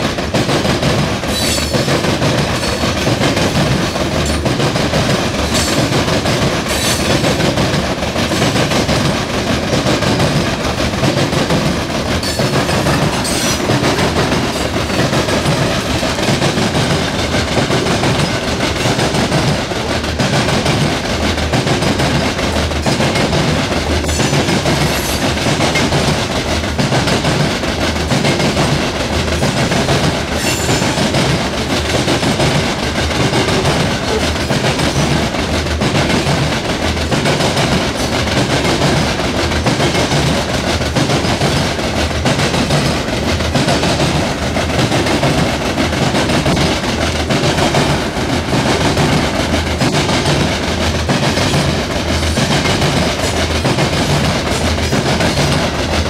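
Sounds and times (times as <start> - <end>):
freight train wheels rumbling: 0.0 - 56.0
wheels clicking over rail joints: 0.0 - 56.0.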